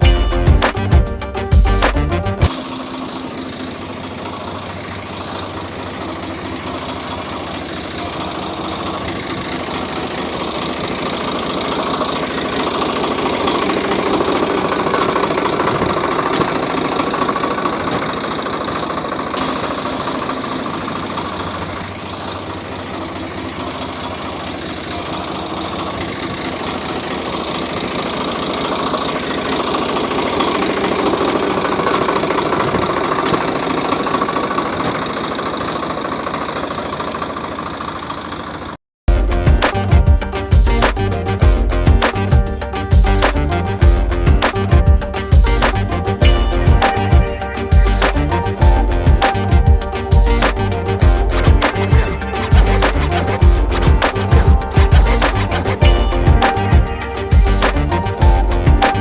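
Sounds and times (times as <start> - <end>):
small tractor motor running: 2.4 - 59.0.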